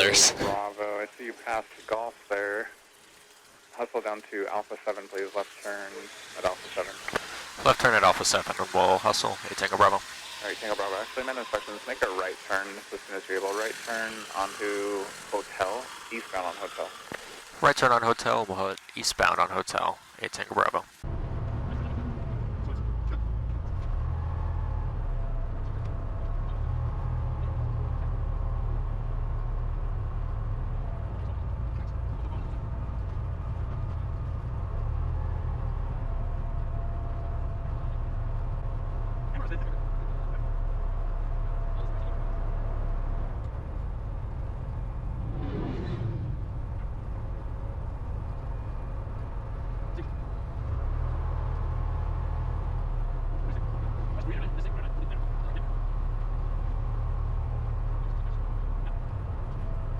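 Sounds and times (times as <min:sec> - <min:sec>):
plane piston engine droning: 0:00.0 - 0:21.1, 0:22.6 - 0:59.9.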